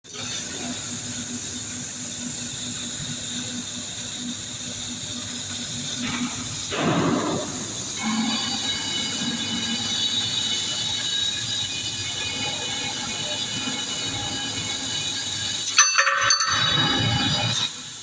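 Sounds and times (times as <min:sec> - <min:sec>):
machine mechanical hiss: 0:00.2 - 0:15.8
high steady whines: 0:00.5 - 0:18.0.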